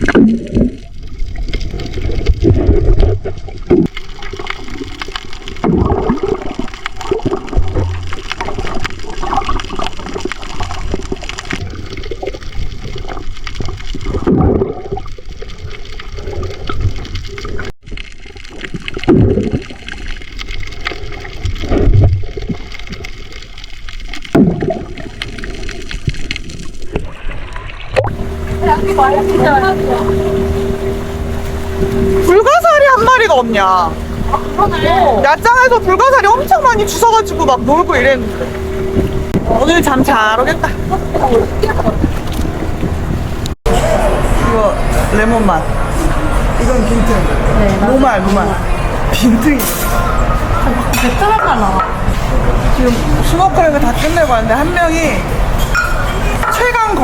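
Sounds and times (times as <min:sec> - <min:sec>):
water splashing and sloshing: 0:00.0 - 0:57.0.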